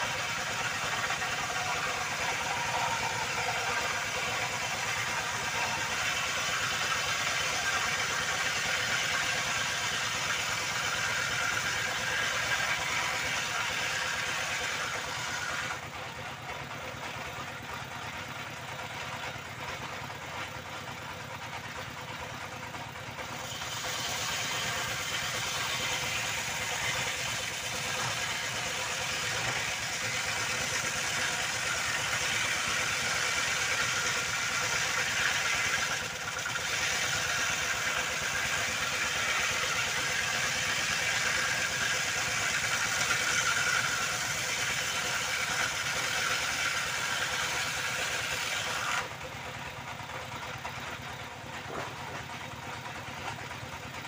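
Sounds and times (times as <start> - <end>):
circular saw cutting wood: 0.0 - 54.0
machine running steadily: 0.0 - 54.0.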